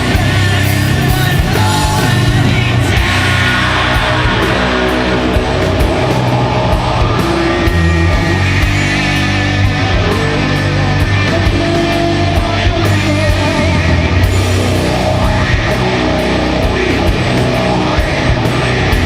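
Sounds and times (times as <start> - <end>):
distorted guitars and bass: 0.0 - 19.0
doom metal band playing: 0.0 - 19.0
drum and cymbal hits: 0.0 - 19.0.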